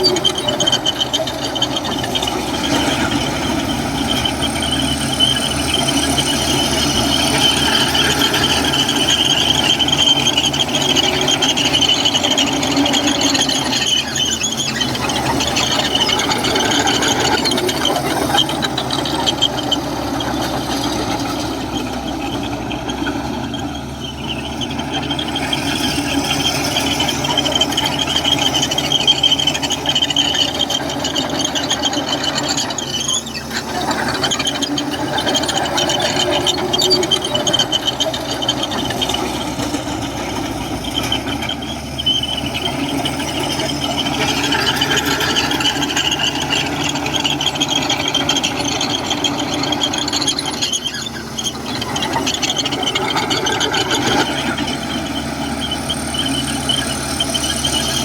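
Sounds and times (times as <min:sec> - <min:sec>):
bulldozer diesel engine running: 0:00.0 - 0:58.0
steel tracks squealing and rattling: 0:00.0 - 0:58.0.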